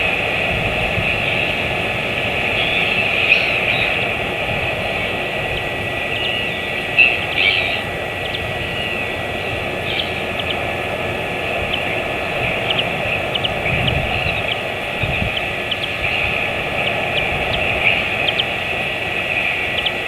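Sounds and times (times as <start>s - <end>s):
wind rumble and hiss: 0.0s - 20.0s
louder animal call: 0.8s - 18.6s.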